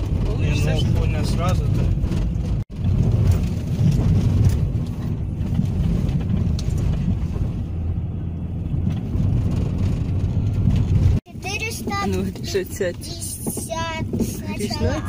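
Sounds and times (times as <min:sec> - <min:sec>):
low rumble of tyres and engine: 0:00.0 - 0:15.0.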